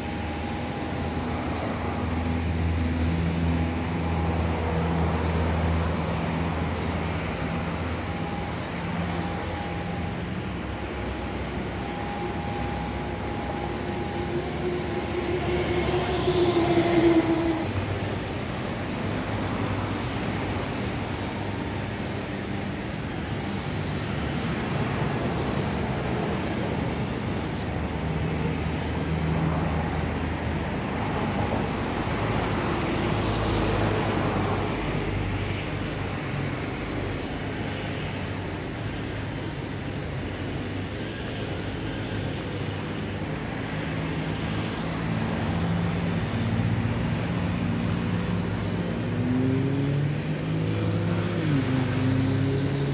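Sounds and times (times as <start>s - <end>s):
airliner jet engines: 0.0s - 52.9s
road traffic: 0.0s - 52.9s.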